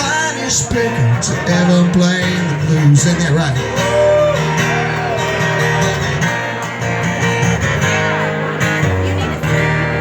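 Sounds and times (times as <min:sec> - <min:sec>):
band playing country-rock: 0:00.0 - 0:10.0
lead guitar bending notes: 0:00.0 - 0:10.0.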